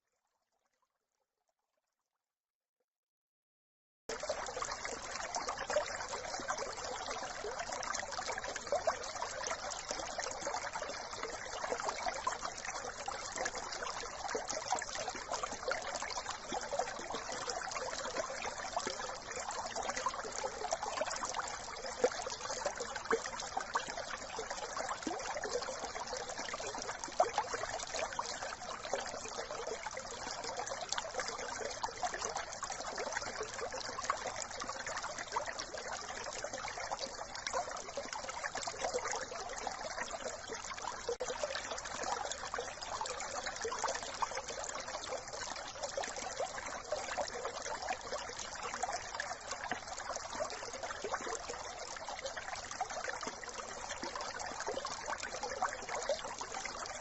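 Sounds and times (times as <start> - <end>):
brook babbling over stones: 4.1 - 57.0.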